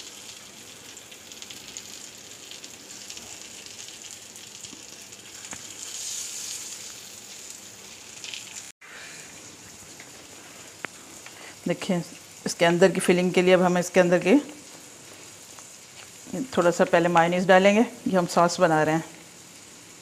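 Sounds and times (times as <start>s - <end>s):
burger patties sizzling: 0.0s - 20.0s.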